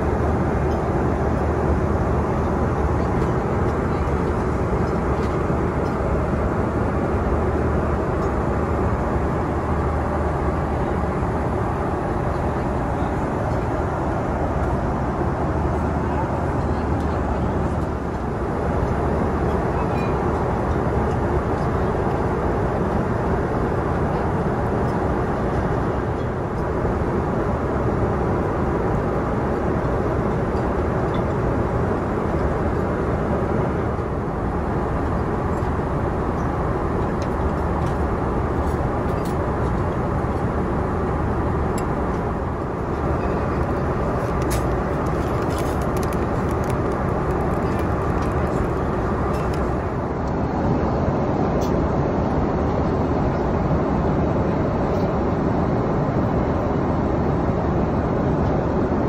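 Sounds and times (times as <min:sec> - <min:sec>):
airplane cabin noise: 0:00.0 - 0:59.0.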